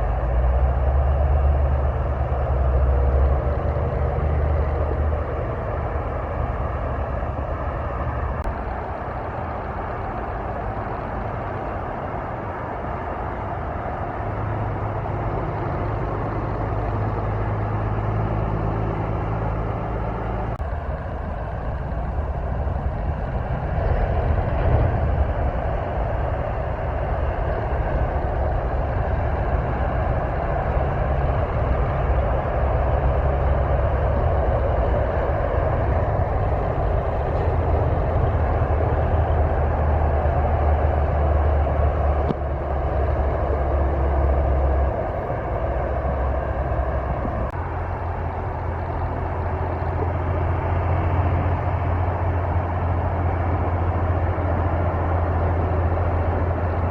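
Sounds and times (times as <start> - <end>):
diesel truck engine drone: 0.0 - 56.9
tyre and road noise: 0.0 - 56.9.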